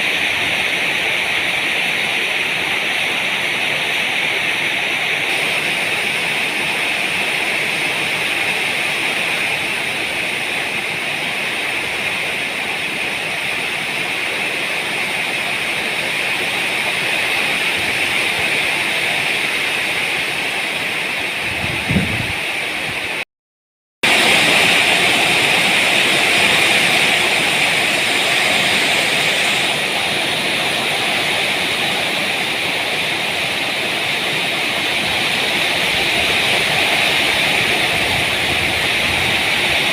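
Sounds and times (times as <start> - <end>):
heavy rain: 0.0 - 23.2, 24.0 - 39.9.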